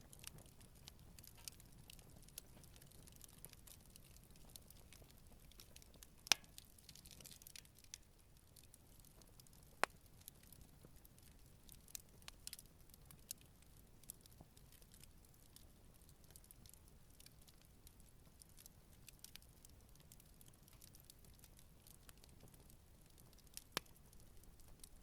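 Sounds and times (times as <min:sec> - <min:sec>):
campfire wood crackling: 0:00.0 - 0:25.0
faint fire hiss: 0:00.0 - 0:25.0.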